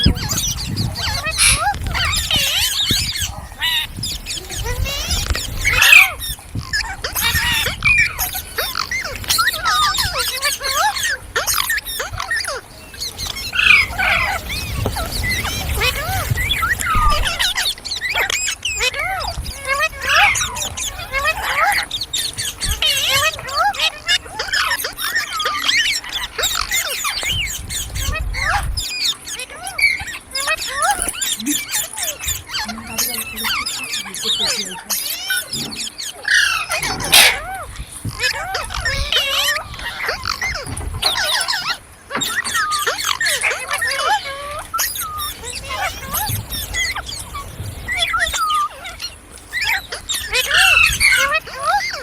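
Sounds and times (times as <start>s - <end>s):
parakeet whistles and squawks: 0.0s - 52.0s.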